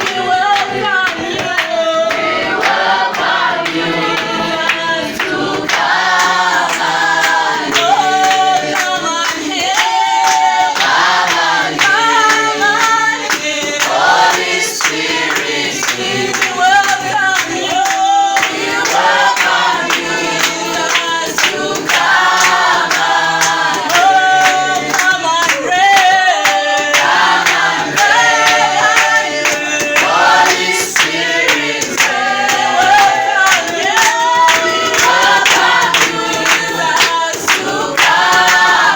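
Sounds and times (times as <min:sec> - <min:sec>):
choir singing: 0:00.0 - 0:38.9
steady beat: 0:00.0 - 0:38.9.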